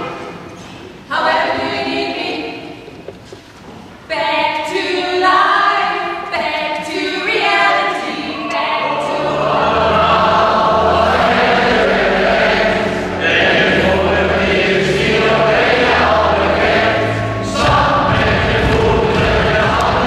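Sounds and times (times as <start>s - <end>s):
women singing together: 1.1s - 2.6s, 4.1s - 20.0s.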